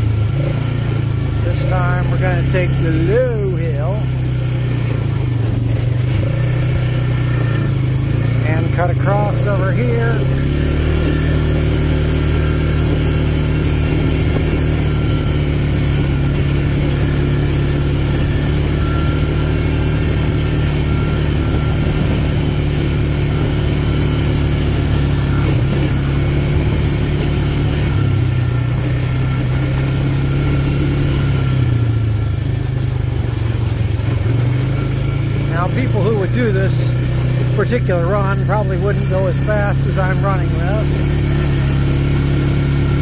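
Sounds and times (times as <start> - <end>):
atv engine running: 0.0 - 43.0.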